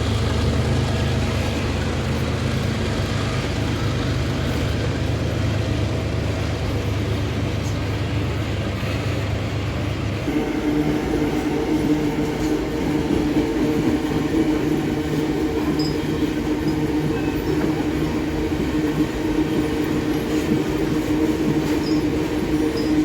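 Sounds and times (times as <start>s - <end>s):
freight train passing: 0.0s - 23.0s.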